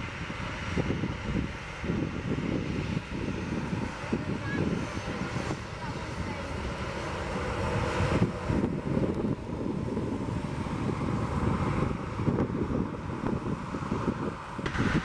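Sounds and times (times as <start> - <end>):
jet engines running: 0.0 - 15.0
wind buffeting microphone: 0.0 - 15.0.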